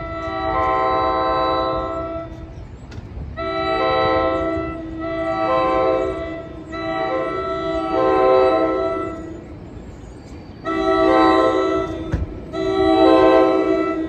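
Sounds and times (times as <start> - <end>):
train air horn blasts: 0.0 - 2.6, 3.3 - 9.6, 10.6 - 14.0
low train rumble: 0.0 - 14.0.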